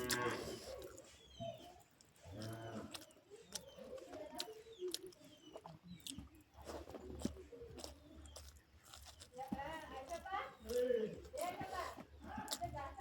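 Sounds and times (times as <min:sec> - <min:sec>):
birds chirping: 0:00.0 - 0:13.0
chewing with wet mouth clicks: 0:00.0 - 0:13.0.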